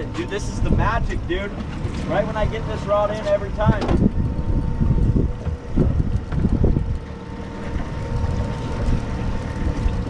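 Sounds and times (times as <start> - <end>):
boat motor running: 0.0 - 10.0
wind buffeting microphone: 0.0 - 10.0.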